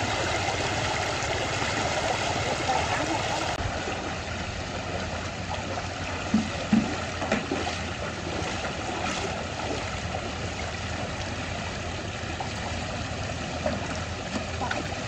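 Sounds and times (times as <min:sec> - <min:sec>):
person wading through water: 0:00.0 - 0:15.0
water running over spillway: 0:00.0 - 0:15.0.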